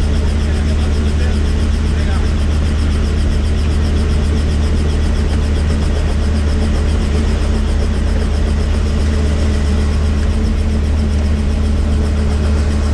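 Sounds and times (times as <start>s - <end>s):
helicopter rotor hum: 0.0s - 12.9s.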